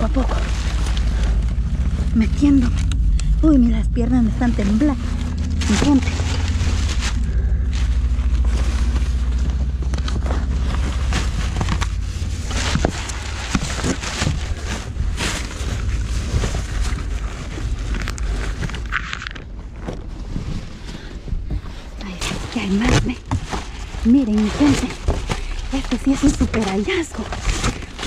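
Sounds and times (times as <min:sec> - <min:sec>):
low rumble: 0:00.0 - 0:28.0
plastic bags crackling: 0:00.0 - 0:28.0.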